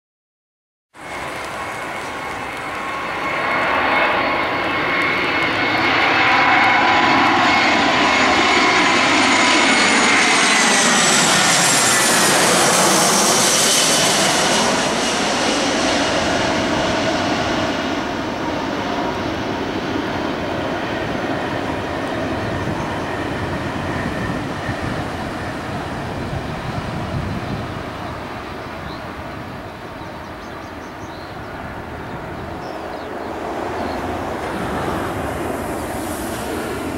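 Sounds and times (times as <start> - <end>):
jet engines whining overhead: 1.0 - 36.9.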